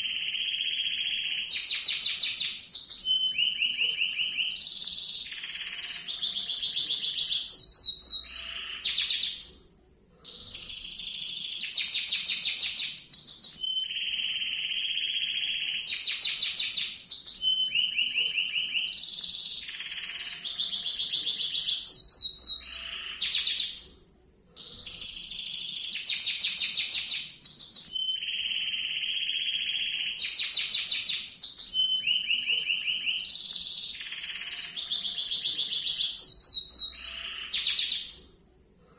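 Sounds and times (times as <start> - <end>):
canary singing trills: 0.0 - 9.5, 10.2 - 23.8, 24.6 - 38.2.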